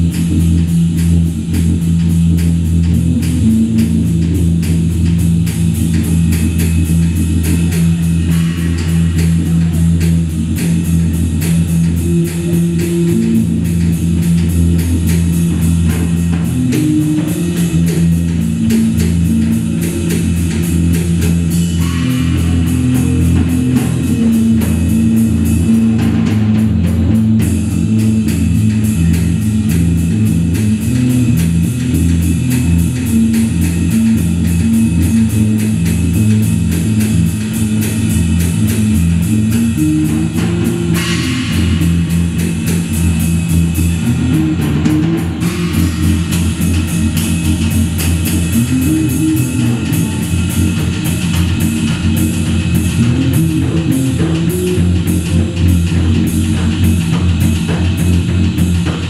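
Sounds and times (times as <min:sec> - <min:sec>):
drum kit fast beat: 0:00.0 - 0:59.0
electric bass held notes: 0:00.0 - 0:59.0.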